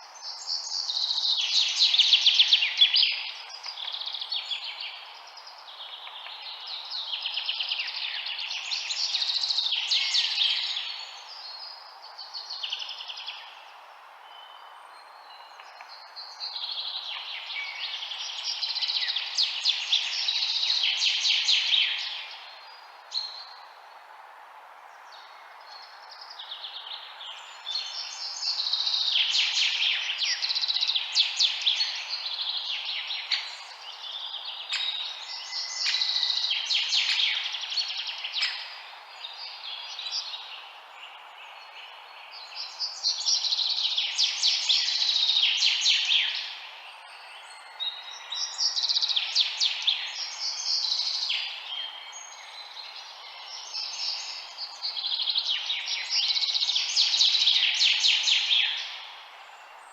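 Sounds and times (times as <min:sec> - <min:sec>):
small birds chirping and twittering: 0:00.0 - 0:59.9
steady background hiss: 0:00.0 - 0:59.9.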